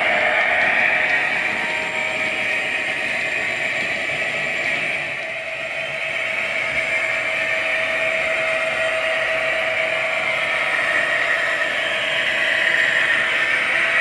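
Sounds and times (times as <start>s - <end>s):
model train diesel engine sound: 0.0s - 14.0s.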